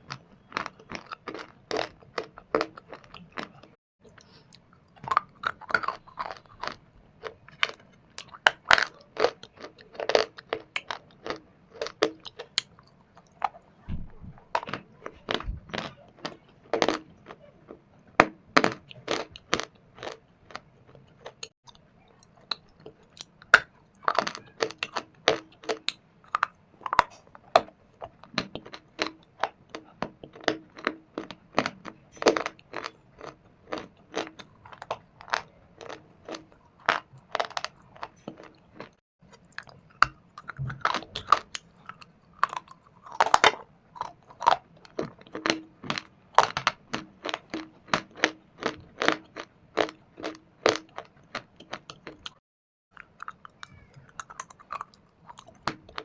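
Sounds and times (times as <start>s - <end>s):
person chewing crunchy stone: 0.0s - 13.7s, 14.3s - 56.0s.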